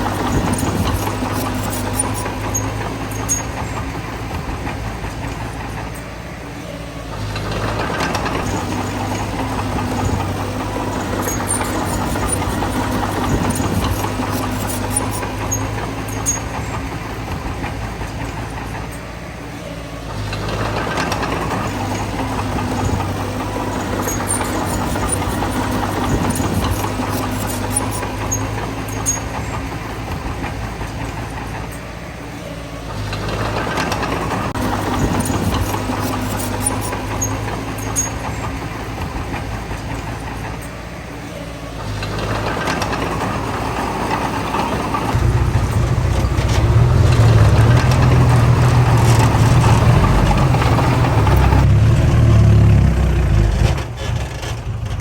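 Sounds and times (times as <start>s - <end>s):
bulldozer engine under load: 0.0s - 55.0s.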